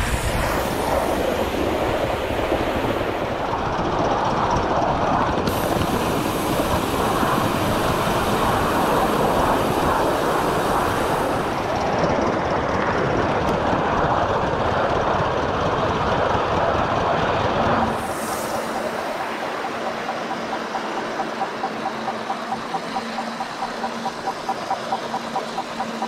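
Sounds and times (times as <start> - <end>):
model train wheels rumbling on rails: 0.0 - 26.0.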